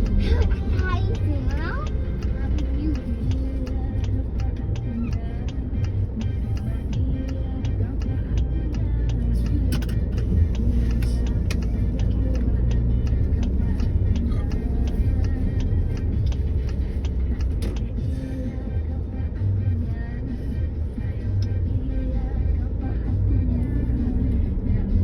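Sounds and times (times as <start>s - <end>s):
car engine and tyre rumble: 0.0s - 25.0s
music with a regular beat: 0.0s - 25.0s.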